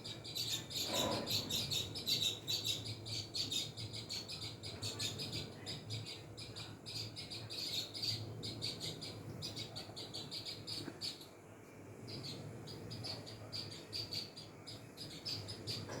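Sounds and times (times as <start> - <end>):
sparrows chirping: 0.0 - 11.4, 12.0 - 16.0.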